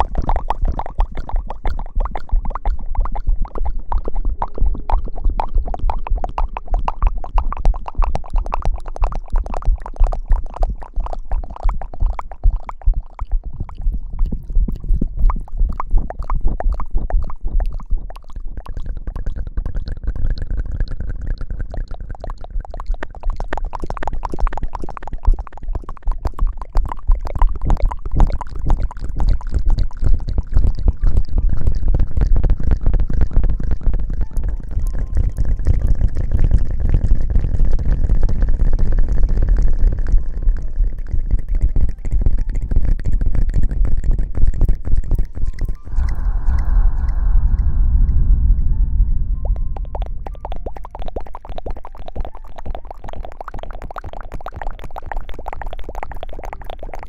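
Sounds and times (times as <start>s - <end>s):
fingers lathering wet hair: 0.0s - 47.3s, 49.5s - 57.0s.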